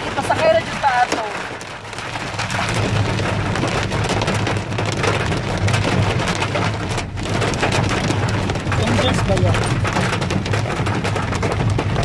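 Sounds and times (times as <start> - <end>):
rain and hail pelting: 0.0 - 12.0.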